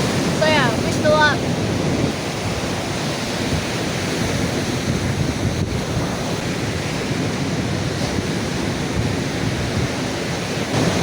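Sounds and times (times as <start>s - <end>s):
surf on a beach: 0.0s - 11.0s
wind buffeting microphone: 0.0s - 11.0s.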